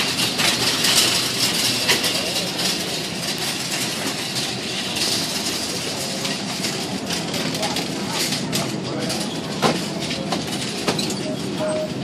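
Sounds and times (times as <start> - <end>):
shopping carts rattling on tile: 0.0 - 12.0.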